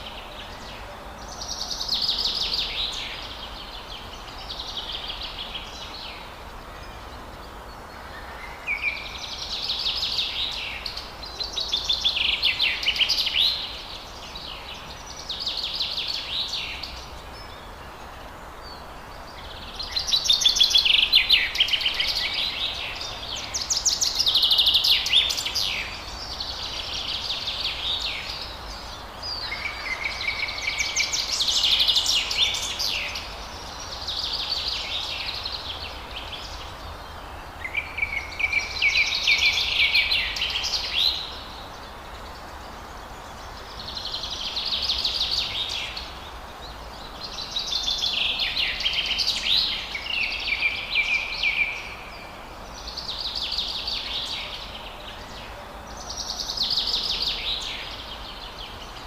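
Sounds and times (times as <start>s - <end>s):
faint hiss: 0.0s - 59.0s.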